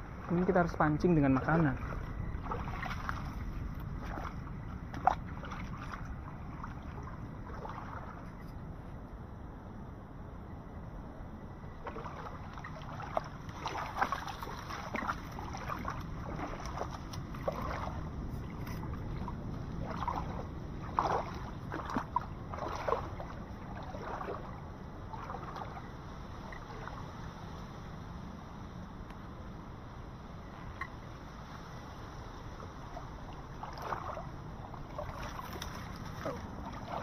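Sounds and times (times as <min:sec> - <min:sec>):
water splashing around boat: 0:00.0 - 0:09.0, 0:11.7 - 0:28.6, 0:30.3 - 0:37.0.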